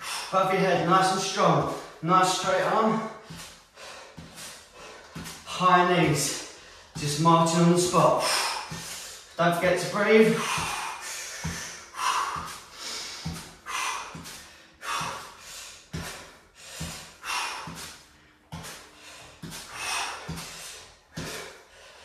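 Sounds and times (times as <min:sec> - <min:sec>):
man breathing hard: 0:00.0 - 0:00.9, 0:01.6 - 0:02.0, 0:02.6 - 0:07.1, 0:07.9 - 0:09.4, 0:10.2 - 0:22.0
footfalls marching on the spot: 0:00.6 - 0:21.6.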